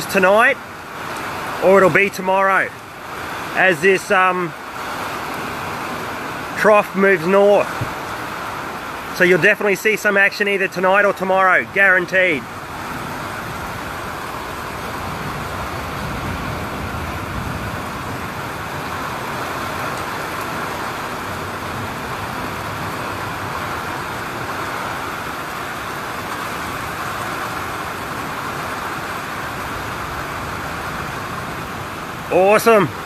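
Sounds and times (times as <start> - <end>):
heavy rain: 0.0 - 33.0
wind: 0.0 - 33.0.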